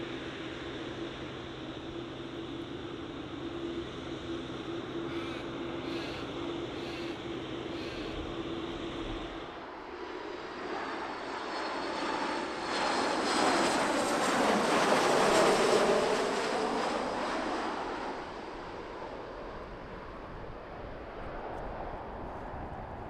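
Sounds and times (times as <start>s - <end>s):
airliner engine passing: 0.0s - 23.0s.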